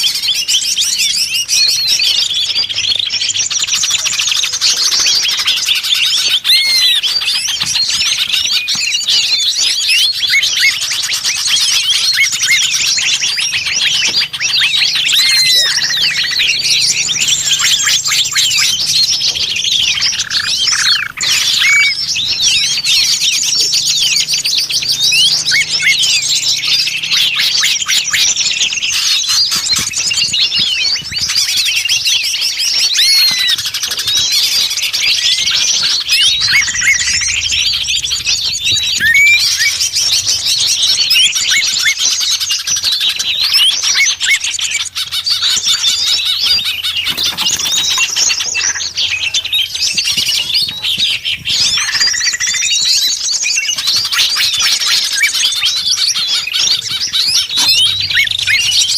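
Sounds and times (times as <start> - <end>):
songbirds chirping and twittering: 0.0 - 58.9.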